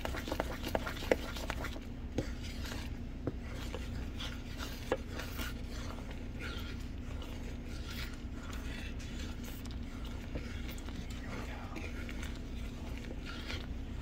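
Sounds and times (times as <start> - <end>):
steady low hum: 0.0 - 14.0
wooden spoon stirring thick syrup: 0.0 - 14.0.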